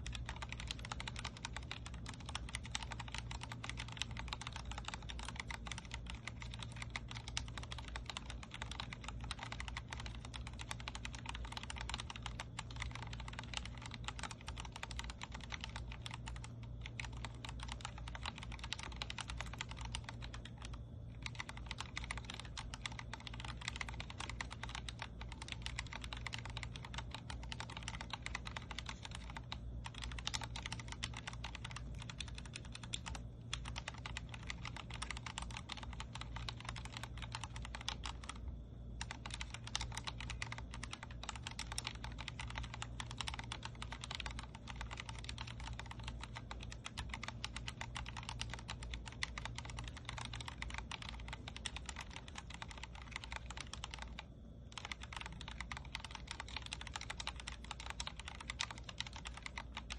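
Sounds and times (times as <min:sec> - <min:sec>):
mechanical keyboard typing: 0:00.0 - 0:59.9.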